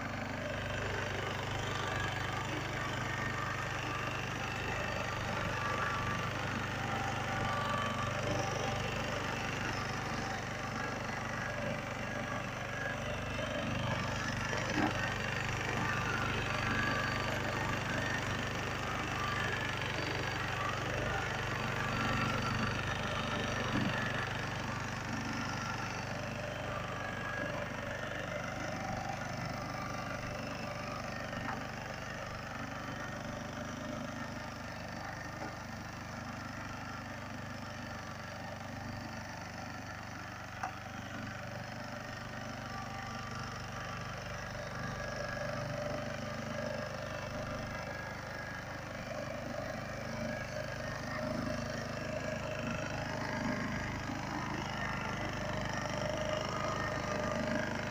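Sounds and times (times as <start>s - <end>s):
tines churning soil: 0.0s - 33.3s, 43.6s - 57.9s
tiller engine running: 0.0s - 57.9s.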